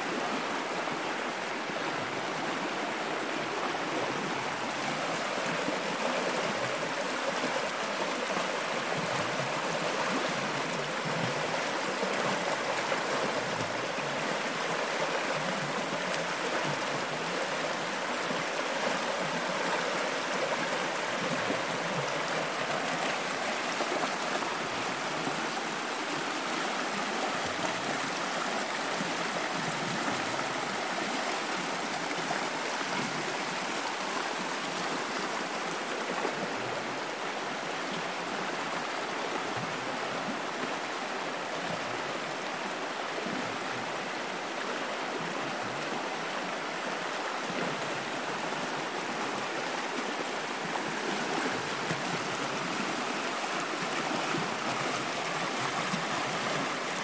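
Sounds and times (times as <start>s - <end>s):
river babbling over stones: 0.0s - 57.0s.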